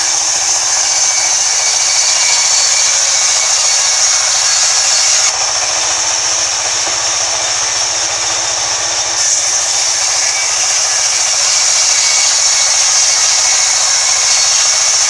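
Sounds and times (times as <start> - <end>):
band saw cutting plank: 0.0 - 15.0.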